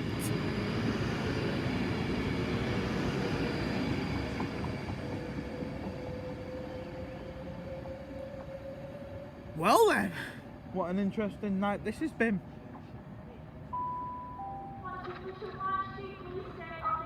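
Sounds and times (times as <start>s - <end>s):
steady train whine: 0.0s - 15.0s
electric train rumble: 0.0s - 17.0s.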